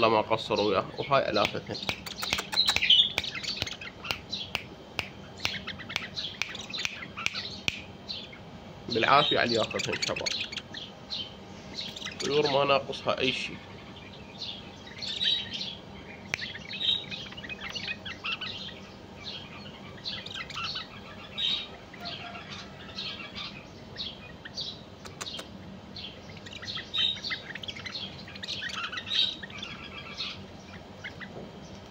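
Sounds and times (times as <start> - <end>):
birds chirping and singing: 0.0 - 31.9.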